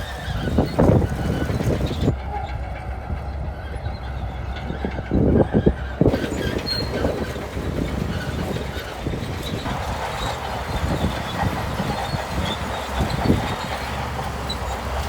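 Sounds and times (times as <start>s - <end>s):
bulldozer diesel engine rumble: 0.0s - 15.0s
steel tracks clanking: 0.0s - 15.0s.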